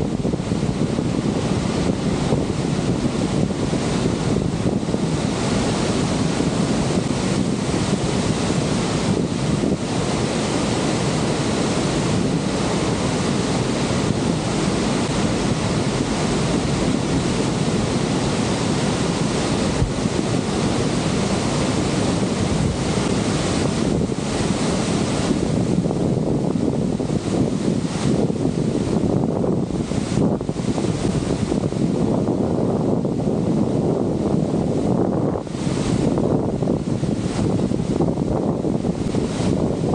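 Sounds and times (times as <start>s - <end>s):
waterfall roaring: 0.0s - 39.9s
wind buffeting microphone: 0.0s - 39.9s.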